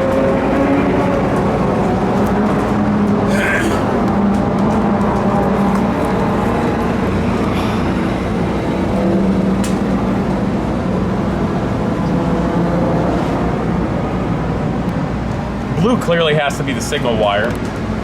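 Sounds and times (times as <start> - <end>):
engines droning: 0.0 - 18.0.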